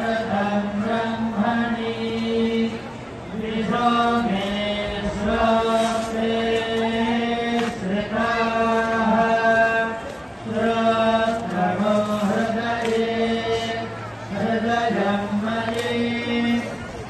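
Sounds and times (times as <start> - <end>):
person chanting in held notes: 0.0 - 17.0.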